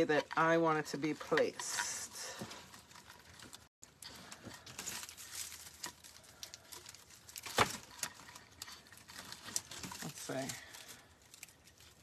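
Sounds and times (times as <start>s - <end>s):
dry branches crackling and rustling: 0.0s - 12.0s.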